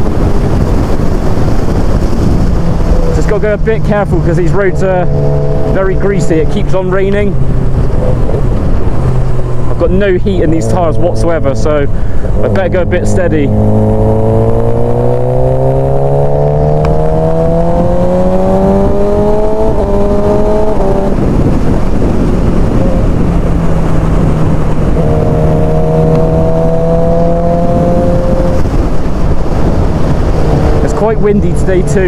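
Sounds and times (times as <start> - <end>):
motorcycle engine revving: 0.0 - 32.0
wind and road rush: 0.0 - 32.0.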